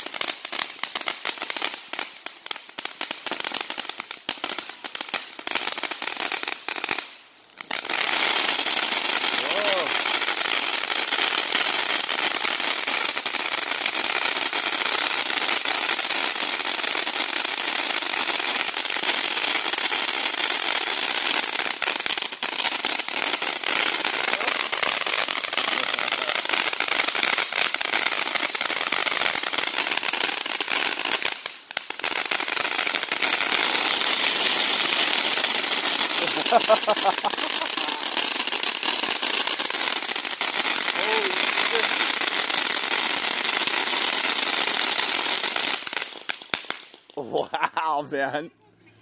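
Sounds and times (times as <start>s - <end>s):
firework crackling and popping: 0.0s - 48.3s.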